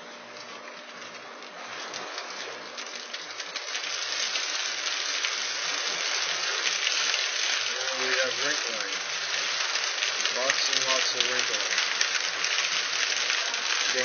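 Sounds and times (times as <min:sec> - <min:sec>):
paper sheet hissing over rollers: 0:00.0 - 0:14.0.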